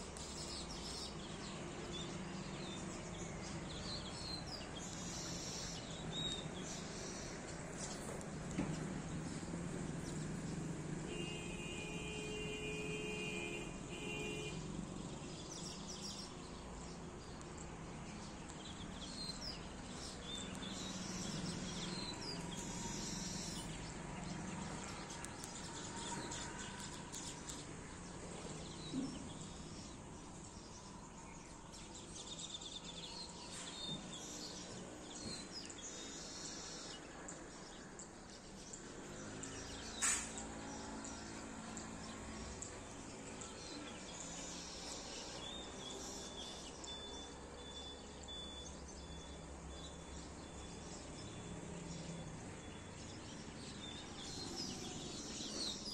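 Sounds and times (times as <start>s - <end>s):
birds chirping: 0.0s - 55.9s
outdoor background hum: 0.0s - 55.9s.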